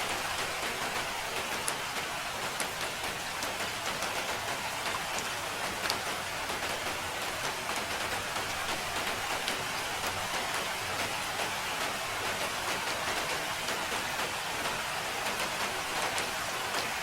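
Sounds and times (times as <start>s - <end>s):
steady rain falling: 0.0s - 17.0s
raindrop taps: 0.2s - 16.9s.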